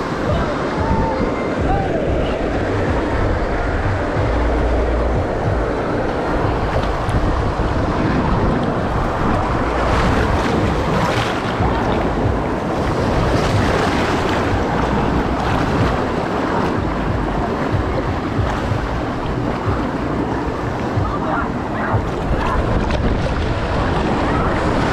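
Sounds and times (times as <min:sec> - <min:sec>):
rushing splashing water: 0:00.0 - 0:24.9.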